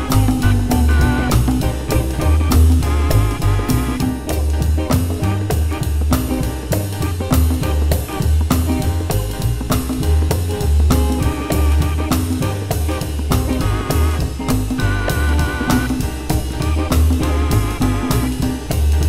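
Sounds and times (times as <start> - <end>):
wavering melodic lick: 0.0 - 9.2, 11.0 - 18.8
drum kit steady beat: 0.0 - 19.0
repeating bass line: 0.0 - 19.0.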